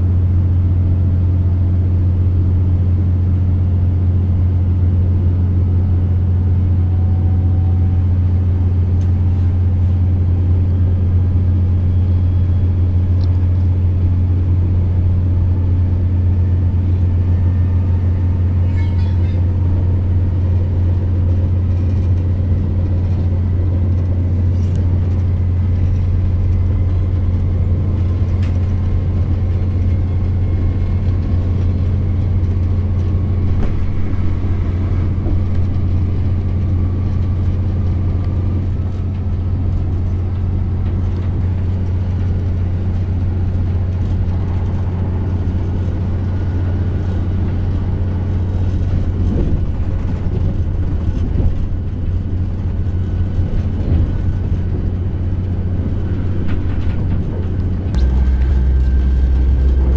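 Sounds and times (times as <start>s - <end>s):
diesel engine drone: 0.0s - 59.9s
train wheels rumbling on rails: 0.0s - 59.9s
faint whine: 5.4s - 59.9s.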